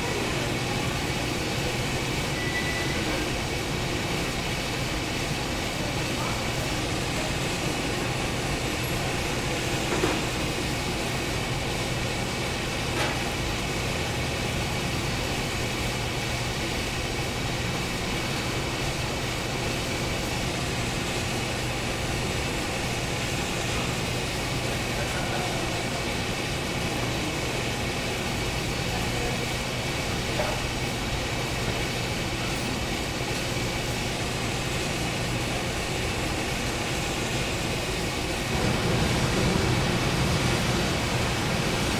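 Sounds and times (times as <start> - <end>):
factory machinery drone: 0.0 - 41.9.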